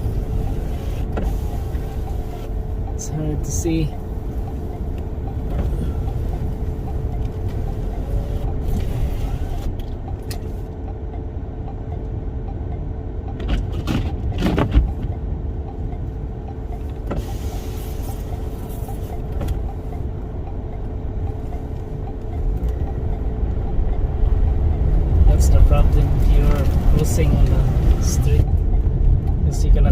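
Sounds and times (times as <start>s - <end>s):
car cabin road rumble: 0.0s - 29.9s.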